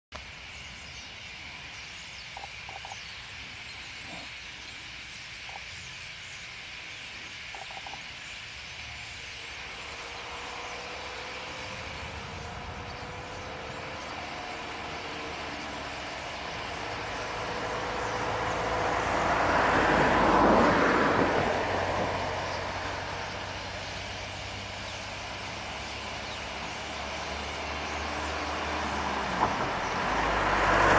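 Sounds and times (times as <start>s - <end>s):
starlings chattering: 0.4s - 19.2s, 21.8s - 30.1s.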